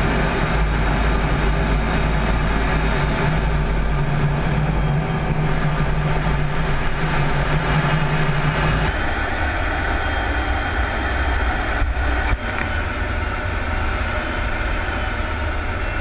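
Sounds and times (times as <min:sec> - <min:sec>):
jet engine: 0:00.0 - 0:16.0.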